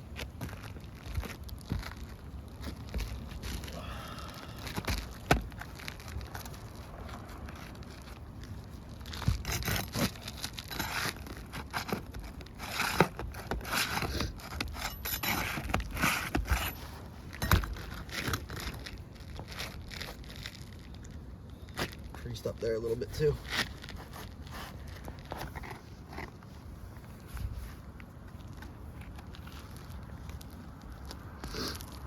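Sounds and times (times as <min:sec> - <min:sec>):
roof shingles scraping and rustling: 0:04.6 - 0:31.9.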